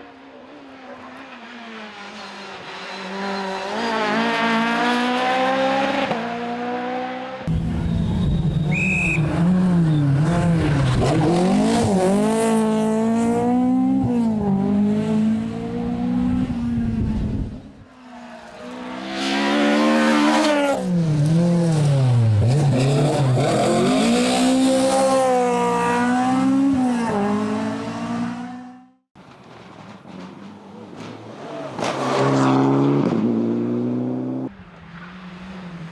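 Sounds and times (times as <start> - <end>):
rally car engines revving: 0.0 - 28.9, 30.0 - 35.9.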